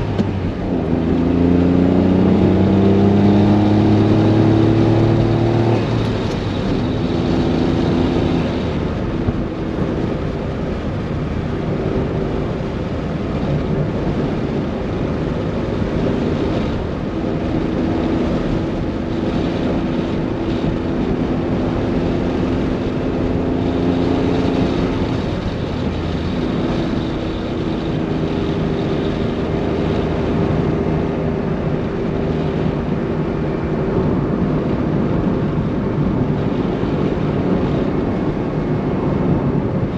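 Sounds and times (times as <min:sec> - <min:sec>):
car engine and exhaust: 0:00.0 - 0:39.9.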